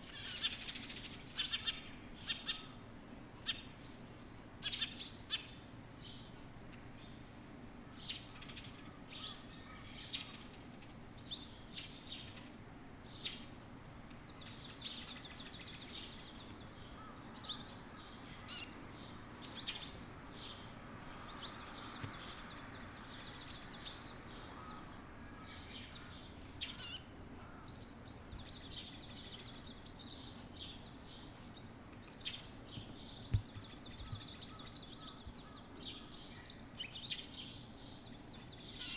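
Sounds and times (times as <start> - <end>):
small songbirds chirping: 0.0 - 38.9.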